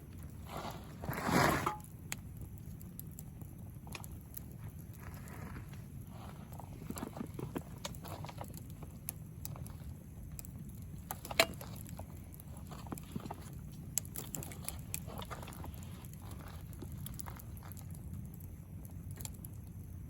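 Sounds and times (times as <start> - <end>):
campfire crackling: 0.0 - 20.0
low flame rumble: 0.0 - 20.0.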